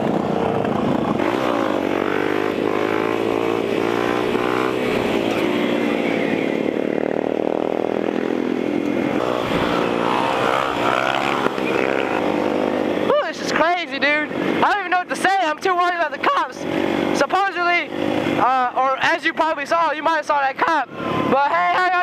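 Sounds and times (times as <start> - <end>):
dirt bike engine: 0.0 - 22.0.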